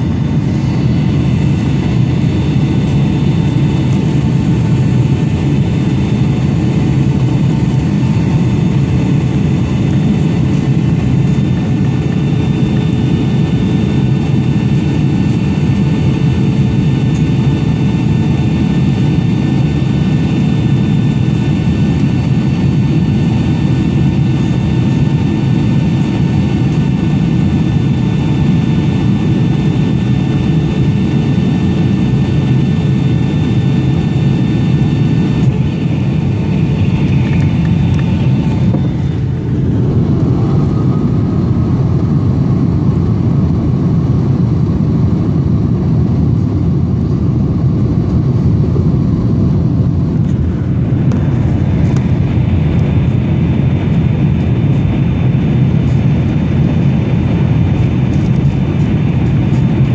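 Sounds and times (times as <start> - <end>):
engine and airflow rush: 0.0 - 59.9
faint engine whine: 0.0 - 59.9.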